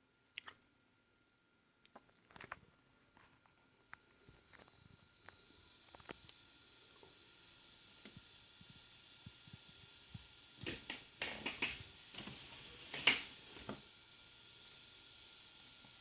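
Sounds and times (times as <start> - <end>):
faint electronic hum: 0.0 - 16.0.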